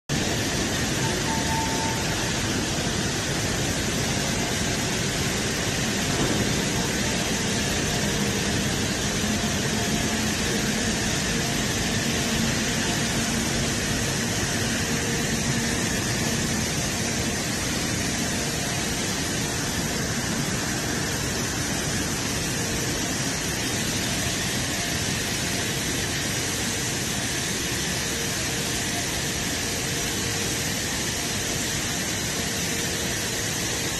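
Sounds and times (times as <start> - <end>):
machinery hiss and hum: 0.1 - 33.9.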